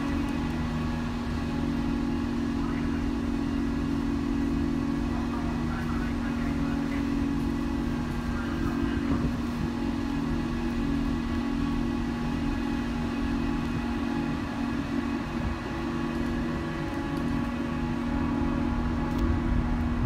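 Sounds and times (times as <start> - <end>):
ship machinery humming: 0.0 - 20.0.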